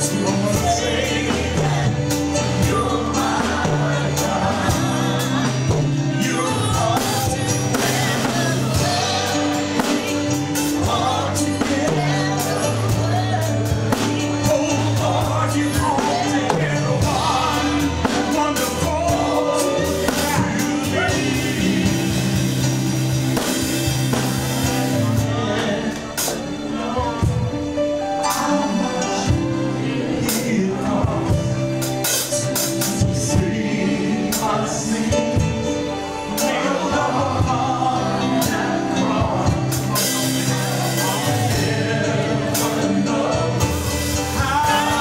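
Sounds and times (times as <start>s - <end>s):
gospel song with band: 0.0s - 45.0s.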